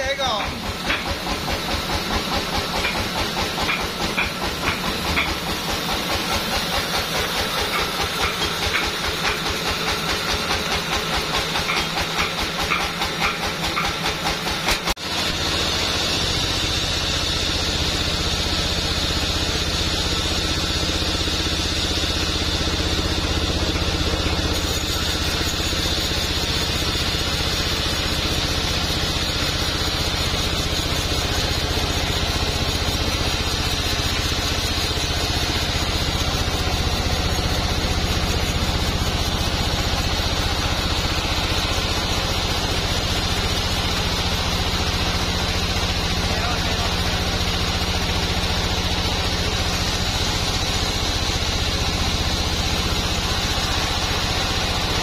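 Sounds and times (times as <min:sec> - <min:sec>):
band sawmill running: 0:00.0 - 0:55.0
saw blade hissing through wood: 0:00.0 - 0:55.0.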